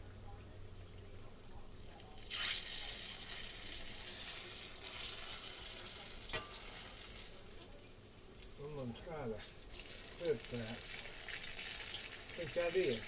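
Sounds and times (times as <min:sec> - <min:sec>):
pies sizzling in hot grease: 0:01.8 - 0:13.0.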